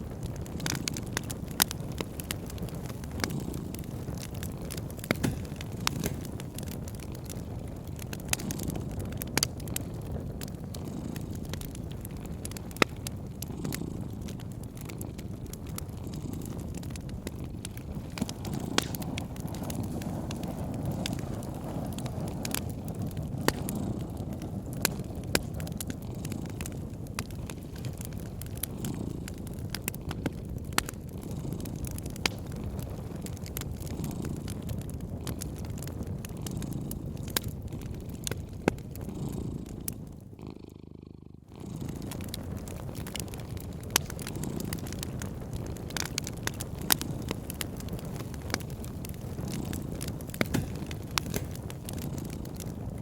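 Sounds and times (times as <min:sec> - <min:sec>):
cat purring: 0:00.0 - 0:53.0
wood fire crackling: 0:00.0 - 0:53.0
sharp pops and snaps: 0:00.3 - 0:40.0, 0:41.8 - 0:53.0.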